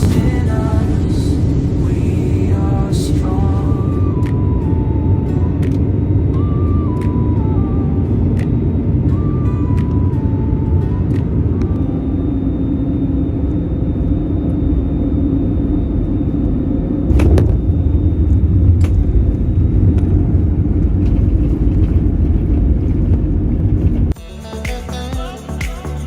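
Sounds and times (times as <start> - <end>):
airliner cabin and engine rumble: 0.0 - 24.2.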